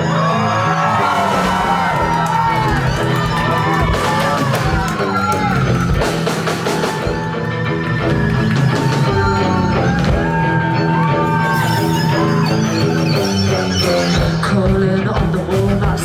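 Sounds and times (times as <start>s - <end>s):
drums: 0.0s - 16.0s
live rock music: 0.0s - 16.0s
steady bass: 0.0s - 16.0s.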